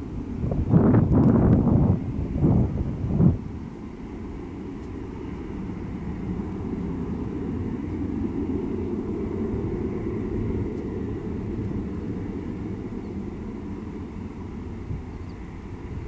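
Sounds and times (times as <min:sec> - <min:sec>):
distant jet engines rumbling: 0:00.0 - 0:16.0.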